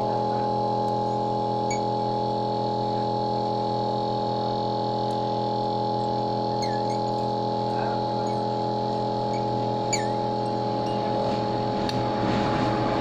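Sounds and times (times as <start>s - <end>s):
machine electrical hum: 0.0s - 13.0s.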